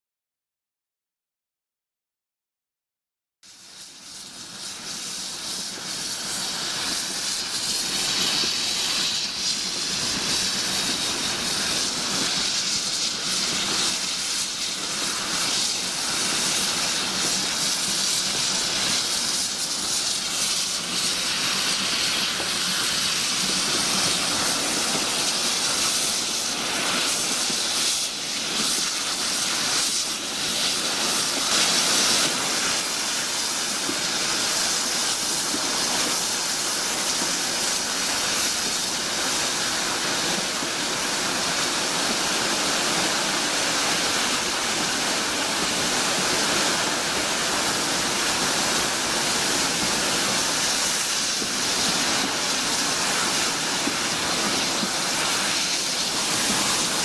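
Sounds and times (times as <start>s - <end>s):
train wheels on track: 3.5s - 57.0s.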